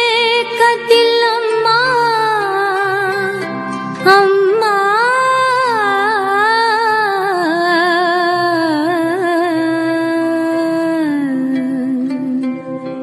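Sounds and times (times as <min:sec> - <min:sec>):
indian style melody: 0:00.0 - 0:13.0.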